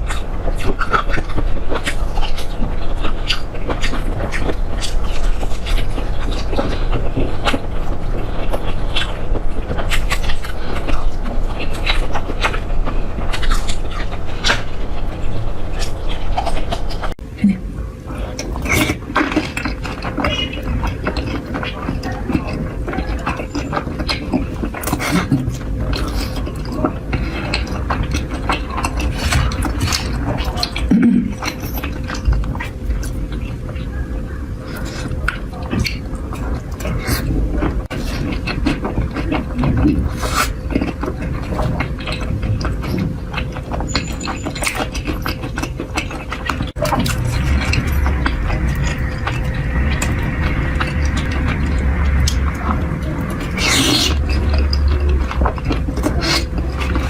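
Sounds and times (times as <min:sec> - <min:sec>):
chewing and crunching food: 0:00.0 - 0:57.0
low rumble: 0:00.0 - 0:57.0.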